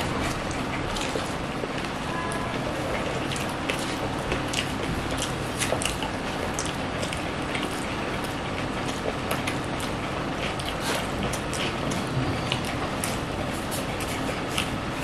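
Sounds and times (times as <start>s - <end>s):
background hum: 0.0s - 15.0s
chewing and smacking: 0.0s - 15.0s.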